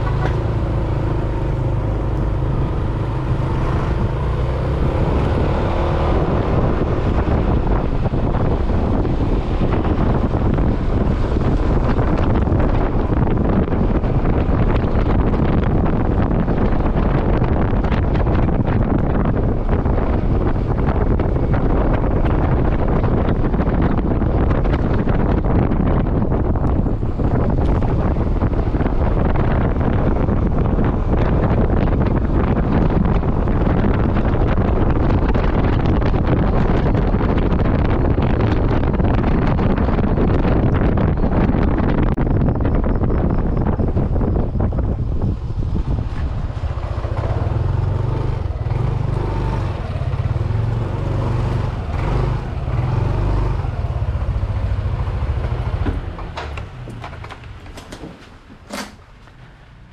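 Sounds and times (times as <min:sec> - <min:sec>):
motorcycle running: 0:00.0 - 0:58.0
wind buffeting microphone: 0:00.0 - 0:59.9.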